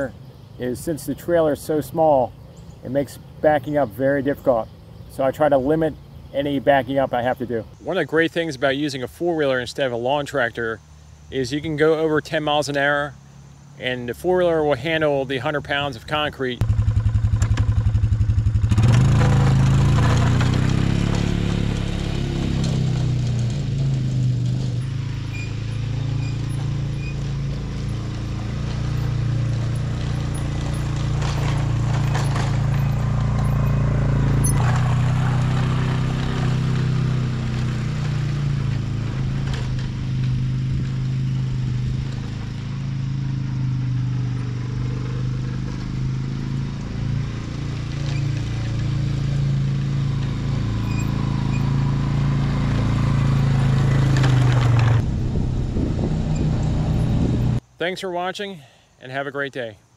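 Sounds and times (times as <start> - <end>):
atv engine running: 0.0 - 57.7.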